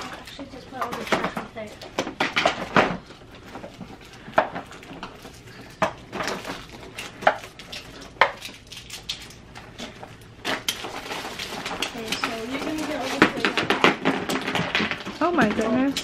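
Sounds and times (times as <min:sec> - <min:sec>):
plastic tubs clicking and clacking: 0:00.0 - 0:08.5, 0:10.5 - 0:16.0.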